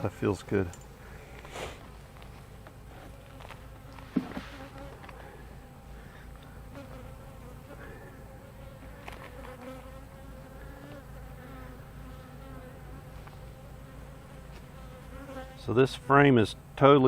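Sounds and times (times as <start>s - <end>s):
bees buzzing: 0.8s - 16.8s.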